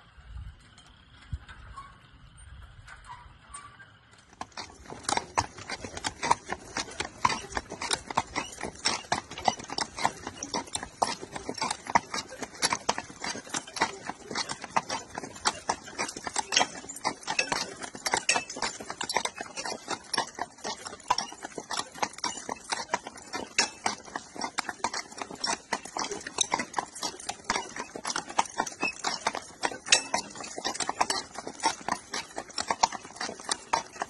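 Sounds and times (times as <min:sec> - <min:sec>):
hooves clip-clopping on pavement: 0:00.0 - 0:34.0.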